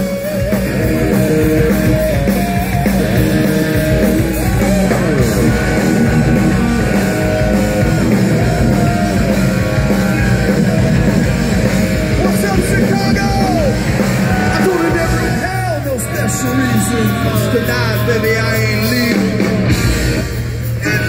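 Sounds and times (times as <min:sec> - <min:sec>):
bass guitar: 0:00.0 - 0:21.0
distorted electric guitar: 0:00.0 - 0:21.0
drums: 0:00.0 - 0:21.0.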